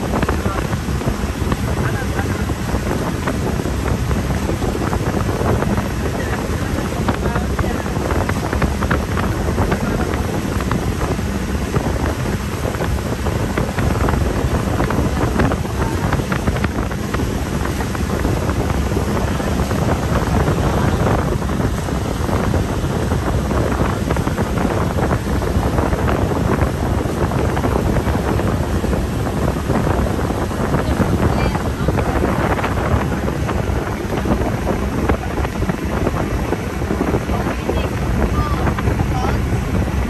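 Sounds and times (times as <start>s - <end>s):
low rumble: 0.0s - 40.0s
wind buffeting microphone: 0.0s - 40.0s.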